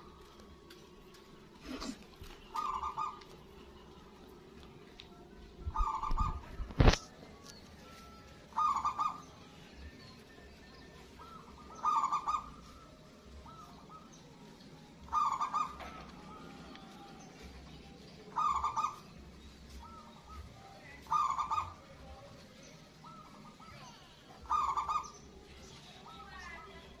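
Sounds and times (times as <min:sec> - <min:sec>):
dove cooing song: 0:00.0 - 0:04.5, 0:05.4 - 0:27.0.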